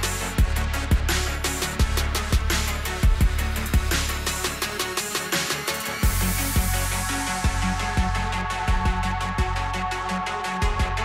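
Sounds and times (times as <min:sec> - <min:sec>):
deep bass: 0:00.0 - 0:11.0
electronic dance music: 0:00.0 - 0:11.0.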